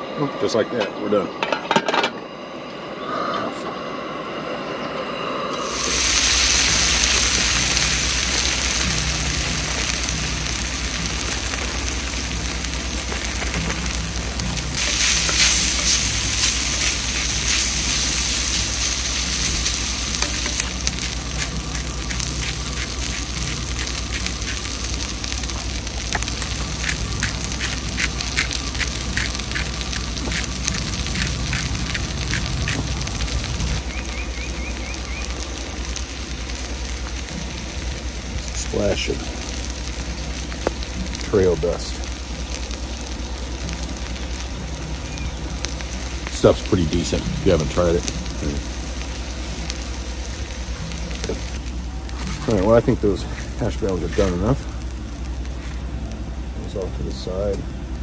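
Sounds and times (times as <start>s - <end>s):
hash browns sizzling in pan: 5.6s - 56.3s.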